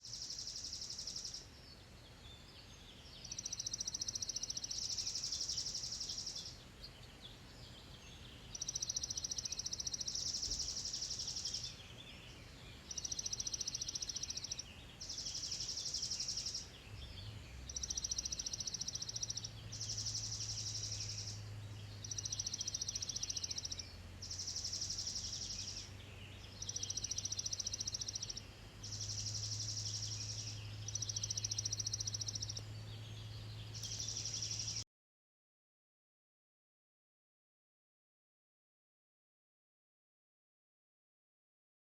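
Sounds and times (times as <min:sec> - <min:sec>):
soft bird chirps: 0:00.0 - 0:34.8.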